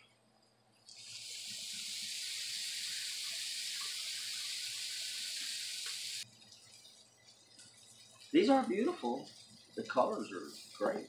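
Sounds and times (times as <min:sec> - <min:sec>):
oil sizzling on griddle: 0:00.8 - 0:11.0.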